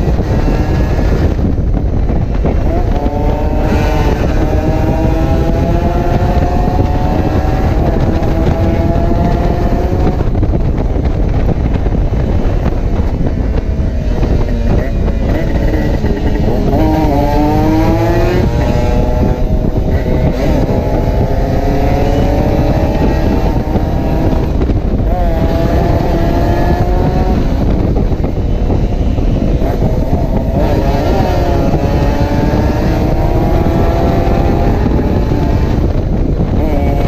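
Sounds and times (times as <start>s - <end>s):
motorcycle engine accelerating: 0.0s - 37.0s
wind noise on microphone: 0.0s - 37.0s.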